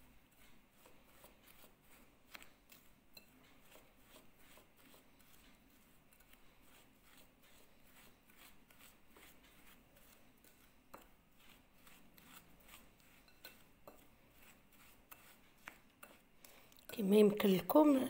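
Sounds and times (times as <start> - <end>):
crumbs rustling and scraping in bowl: 0.0 - 18.0.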